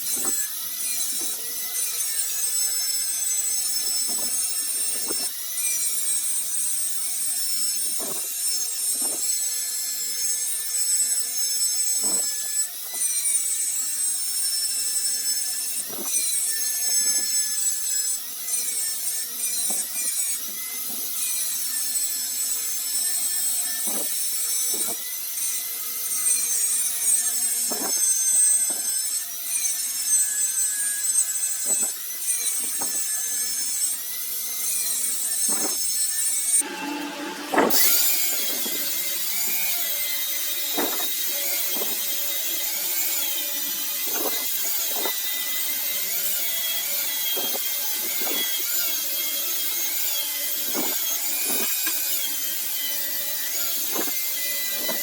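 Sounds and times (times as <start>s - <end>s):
metal rasping: 0.0s - 55.0s
sharp metal scrape: 0.0s - 55.0s.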